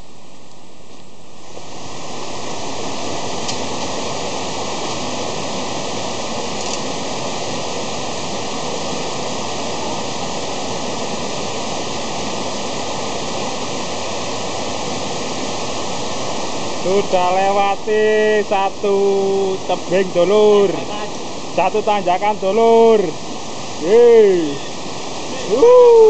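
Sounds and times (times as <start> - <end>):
water rushing over rocks: 1.2 - 26.0.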